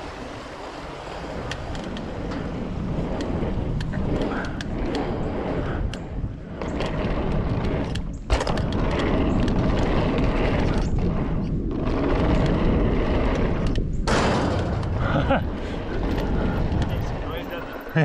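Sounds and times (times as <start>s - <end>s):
bike tyre rumble: 0.0s - 18.0s
wind buffeting microphone: 0.0s - 18.0s.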